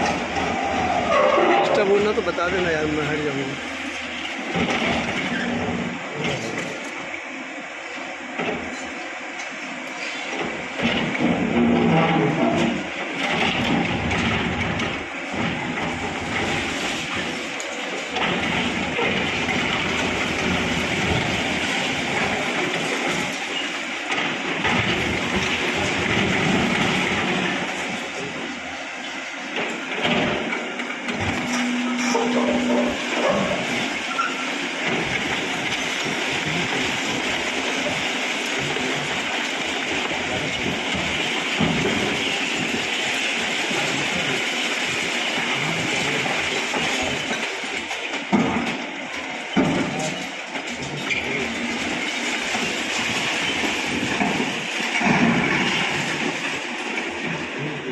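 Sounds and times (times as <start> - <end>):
demolition machinery rumbling clatter: 0.0 - 57.9.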